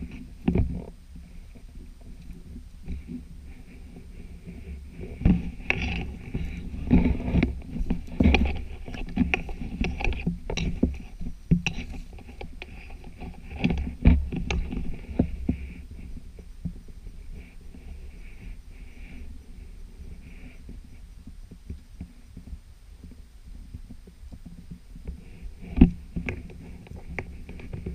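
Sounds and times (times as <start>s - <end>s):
low rumble on microphone: 0.0s - 27.9s.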